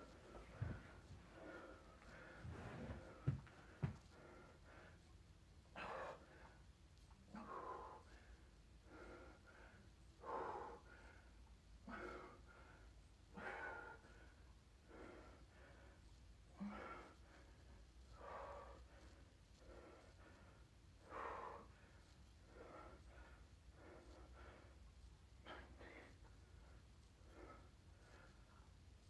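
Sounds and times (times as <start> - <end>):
man breathing hard: 0.0 - 5.1, 5.7 - 6.7, 7.3 - 28.6.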